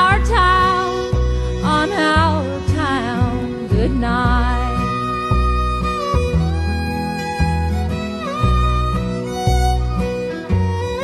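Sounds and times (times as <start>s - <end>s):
instrumental music with bass: 0.0s - 11.0s.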